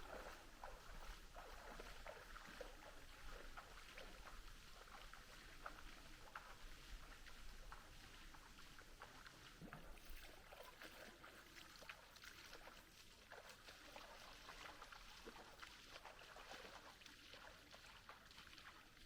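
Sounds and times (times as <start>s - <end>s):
river water trickling and splashing: 0.0s - 19.0s.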